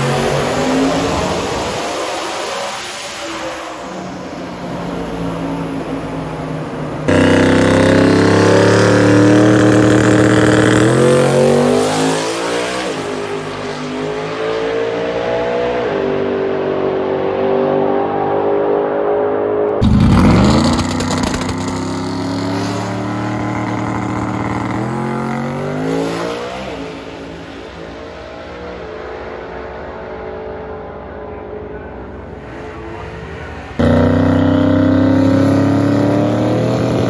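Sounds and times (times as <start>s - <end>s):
race car engine at full throttle: 0.0s - 37.0s.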